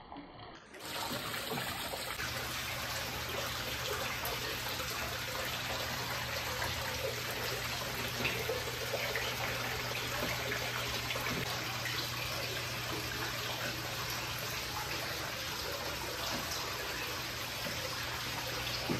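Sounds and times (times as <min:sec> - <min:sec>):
fountain water splashing into pool: 0:00.8 - 0:18.9.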